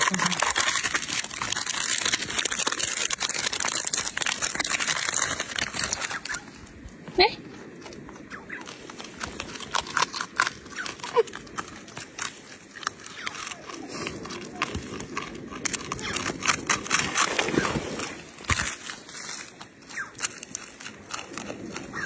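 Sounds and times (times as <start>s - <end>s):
animal chewing crisp cake: 0.0s - 6.7s, 7.5s - 22.0s.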